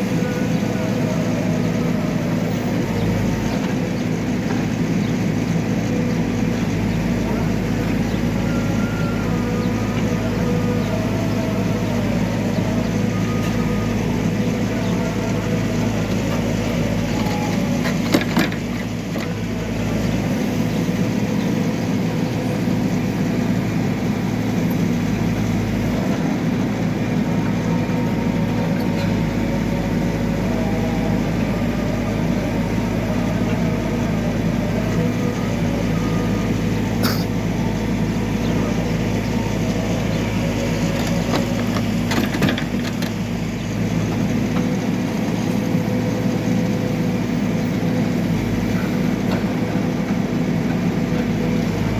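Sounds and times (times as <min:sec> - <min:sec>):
backhoe diesel engine running: 0:00.0 - 0:51.9.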